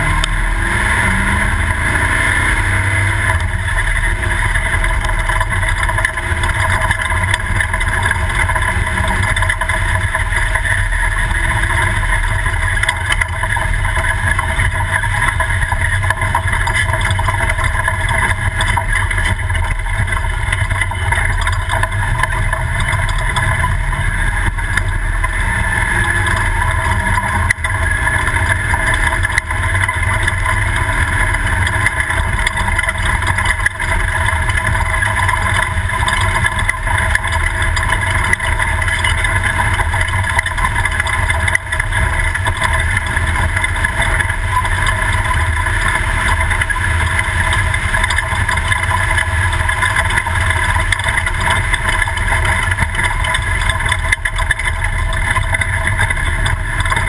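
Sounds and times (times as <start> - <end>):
truck engine running loud: 0.0 - 57.0.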